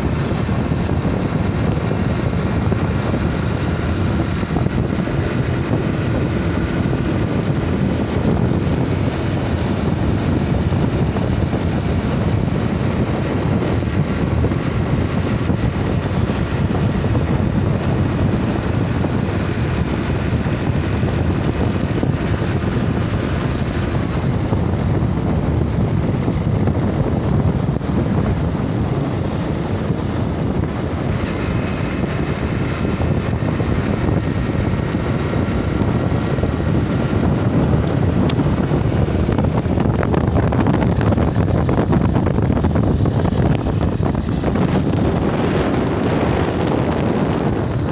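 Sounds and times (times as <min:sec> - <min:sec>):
motorcycle engines running: 0:00.0 - 0:47.9
wind buffeting microphone: 0:00.0 - 0:47.9.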